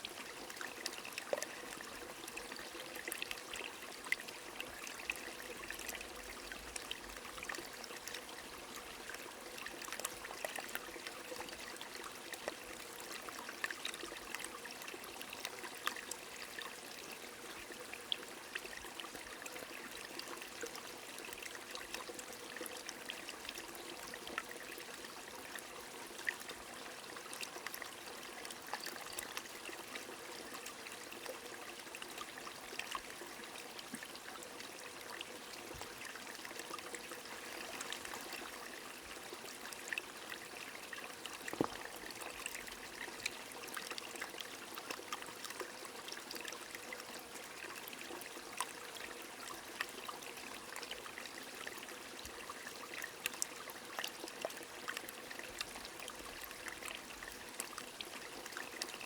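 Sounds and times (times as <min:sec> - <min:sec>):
small stream trickling: 0:00.0 - 0:59.0.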